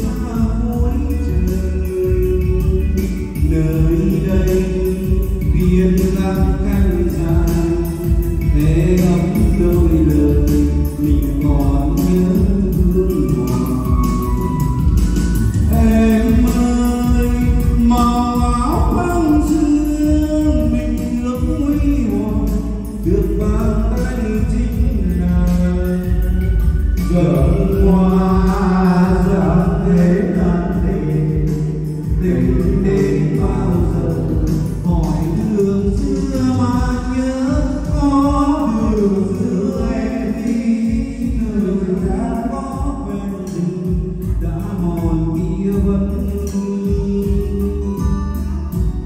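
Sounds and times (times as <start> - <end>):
karaoke backing track: 0.0 - 49.0
man singing karaoke: 0.0 - 49.0
steady bass: 0.0 - 49.0.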